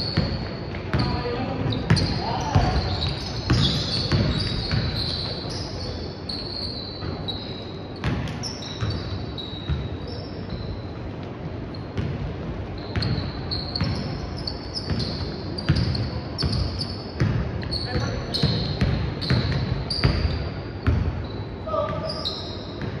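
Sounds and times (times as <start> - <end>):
basketball bouncing on court: 0.0 - 5.7, 8.0 - 10.7, 11.4 - 22.1, 22.7 - 23.0
shoes squeaking on court: 0.0 - 23.0.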